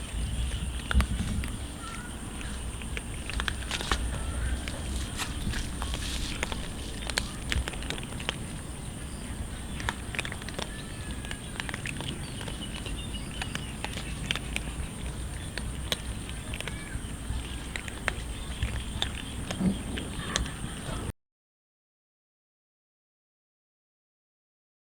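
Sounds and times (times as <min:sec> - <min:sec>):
cats chewing food: 0:00.0 - 0:21.1.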